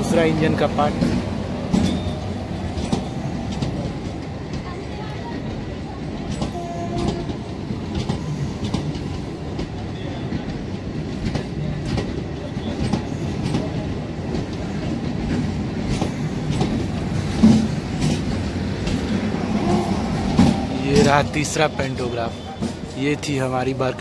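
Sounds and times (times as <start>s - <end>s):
train rumbling past: 0.0s - 24.0s
wheels clacking over rail joints: 0.0s - 24.0s.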